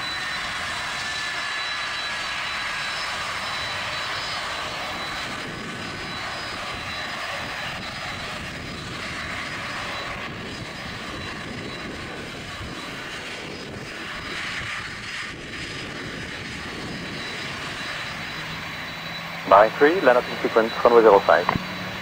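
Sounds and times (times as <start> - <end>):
jet engines at taxi power: 0.0 - 22.0.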